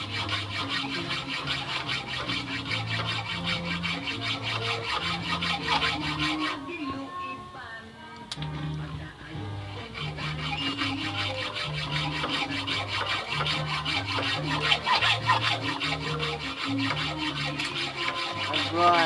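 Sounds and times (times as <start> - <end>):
fast scratchy rhythmic beat: 0.0 - 6.6, 9.9 - 19.0.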